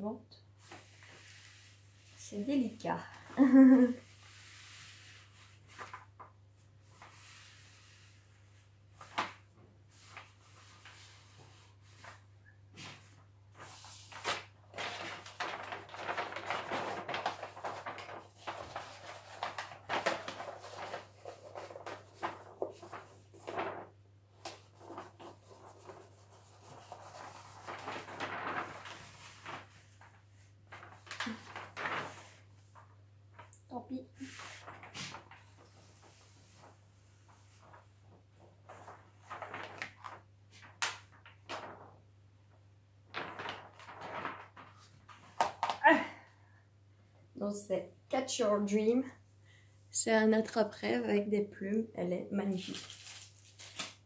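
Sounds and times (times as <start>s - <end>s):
plastic film rustling and crinkling: 0.6s - 42.0s, 43.0s - 46.1s, 52.4s - 54.0s.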